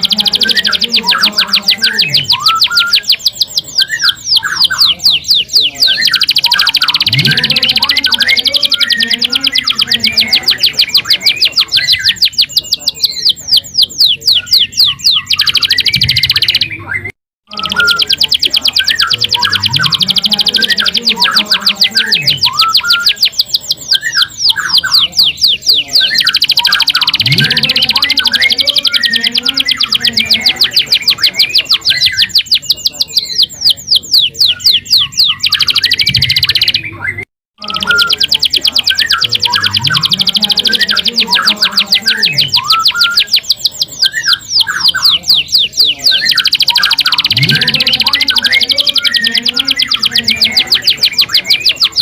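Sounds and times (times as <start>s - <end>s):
canary singing trills: 0.0s - 52.0s
low chirps: 0.0s - 52.0s.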